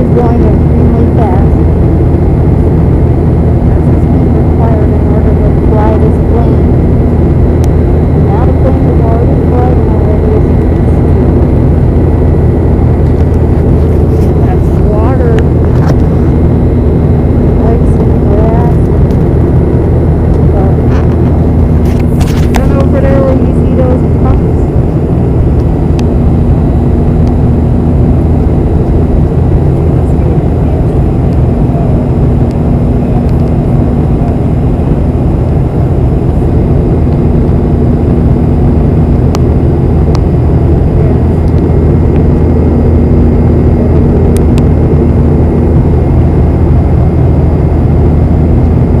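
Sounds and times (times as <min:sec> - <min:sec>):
jet engine cabin drone: 0:00.0 - 0:49.0.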